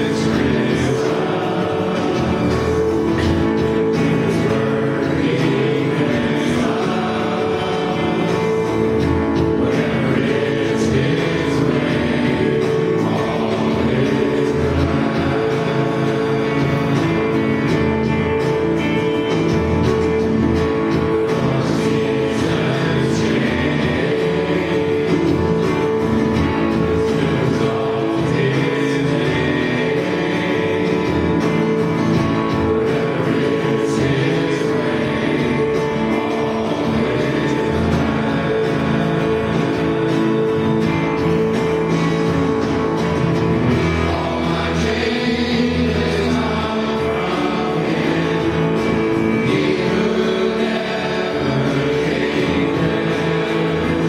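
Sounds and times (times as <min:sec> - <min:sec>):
instrumental accompaniment: 0:00.0 - 0:54.0
men's choir singing gospel: 0:00.0 - 0:54.0.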